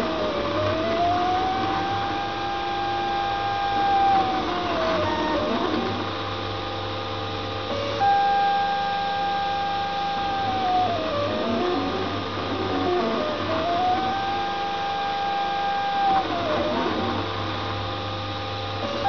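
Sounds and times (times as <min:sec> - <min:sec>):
stepper motors whining: 0:00.0 - 0:06.4, 0:07.6 - 0:17.8, 0:18.7 - 0:19.0.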